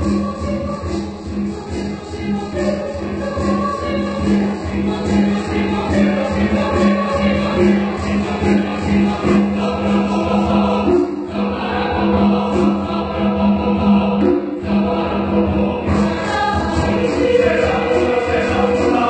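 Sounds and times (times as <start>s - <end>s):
choir singing a cappella: 0.0s - 19.0s.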